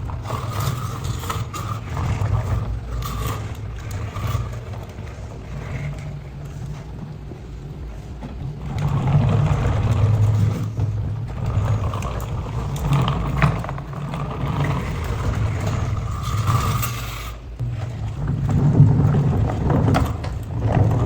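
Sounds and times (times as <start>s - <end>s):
electric motor and gears whirring: 0.0s - 21.0s.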